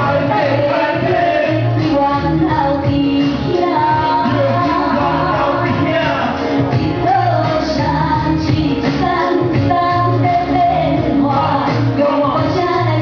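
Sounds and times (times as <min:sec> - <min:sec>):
person singing: 0:00.0 - 0:13.0
rhythmic accompaniment: 0:00.0 - 0:13.0.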